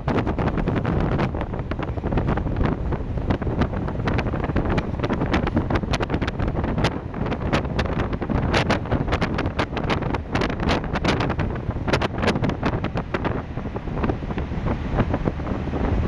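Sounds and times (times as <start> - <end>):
ferry engine rumble: 0.0 - 16.0
wind buffeting microphone: 0.0 - 16.0.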